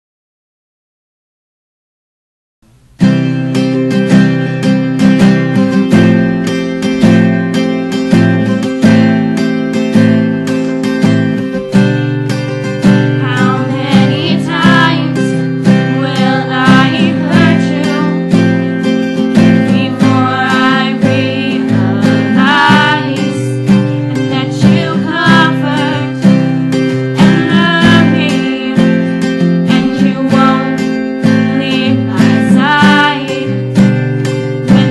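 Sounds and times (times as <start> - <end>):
acoustic guitar strumming: 2.6 - 34.9.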